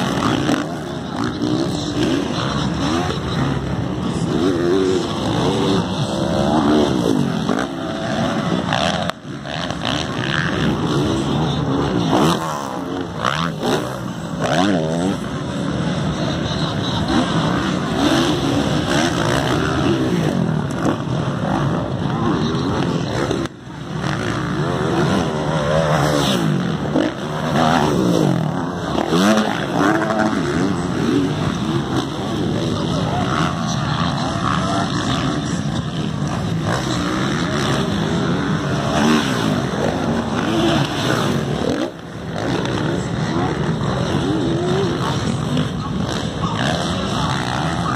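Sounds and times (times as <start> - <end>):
motocross motorcycle engines revving: 0.0 - 47.9.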